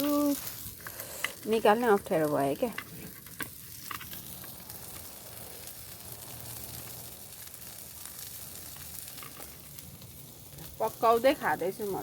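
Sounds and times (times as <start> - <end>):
chicken sizzling on grill: 0.0 - 12.0.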